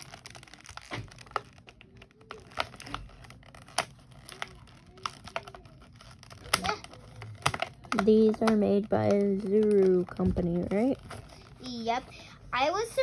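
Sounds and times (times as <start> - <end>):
tape peeling off cardboard: 0.0 - 11.4
sharp clicks and cracks: 0.0 - 11.8
packaging crinkling: 0.0 - 12.2.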